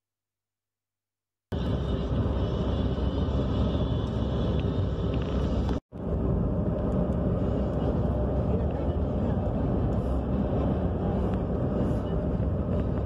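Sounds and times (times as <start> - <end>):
car road and engine rumble: 1.5 - 13.0.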